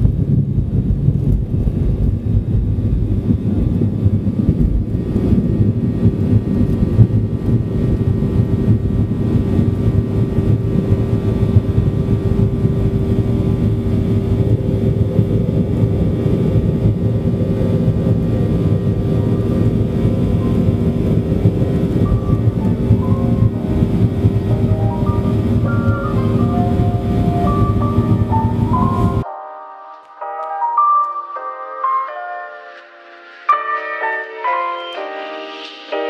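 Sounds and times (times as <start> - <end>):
jet engines rumbling: 0.0 - 29.3.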